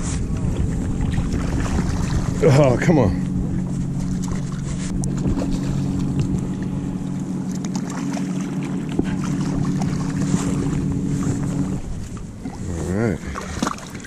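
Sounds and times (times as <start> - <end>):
low drone of held tones: 0.0 - 14.0
water sloshing and splashing: 0.0 - 14.0.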